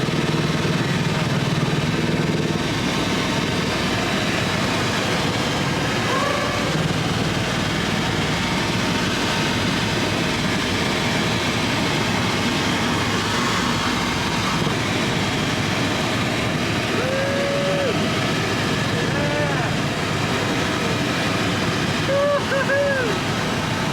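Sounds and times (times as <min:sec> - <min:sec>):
helicopter rotor and engine: 0:00.0 - 0:23.9.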